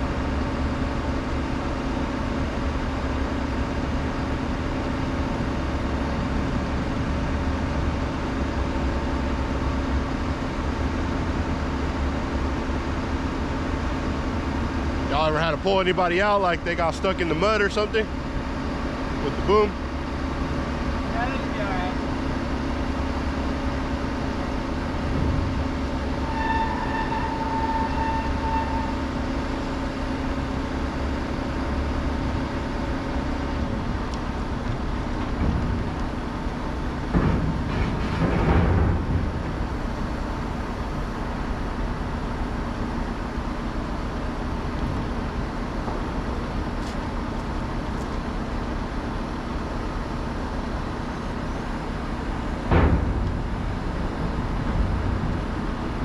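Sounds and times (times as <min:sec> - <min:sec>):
diesel truck engine rumble: 0:00.0 - 0:56.0.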